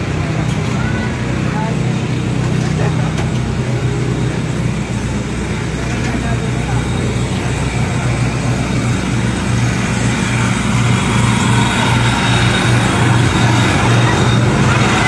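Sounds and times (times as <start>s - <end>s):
engine droning: 0.0s - 15.0s
outdoor noise: 0.0s - 15.0s.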